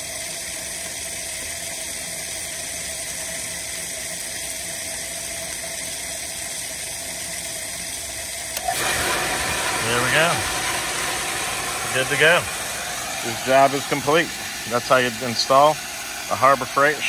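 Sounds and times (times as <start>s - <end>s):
water rushing from a hose tap: 0.0s - 17.0s.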